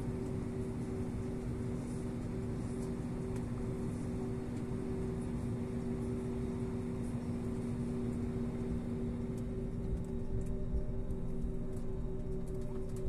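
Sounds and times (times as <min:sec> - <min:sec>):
airliner engine hum: 0:00.0 - 0:13.0.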